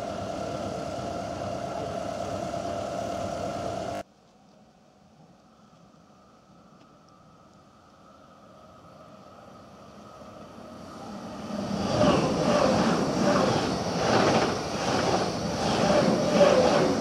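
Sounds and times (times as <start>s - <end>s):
electric train passing: 0.0s - 4.0s, 6.2s - 17.0s.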